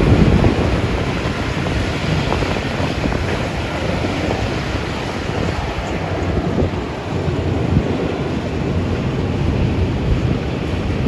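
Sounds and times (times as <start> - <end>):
train rumbling: 0.0 - 11.0
wind buffeting microphone: 0.0 - 11.0.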